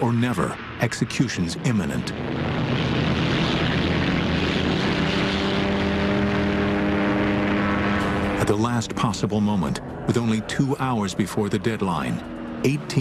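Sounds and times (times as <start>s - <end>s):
aircraft engines roaring: 0.0s - 13.0s
engine droning note: 0.0s - 13.0s.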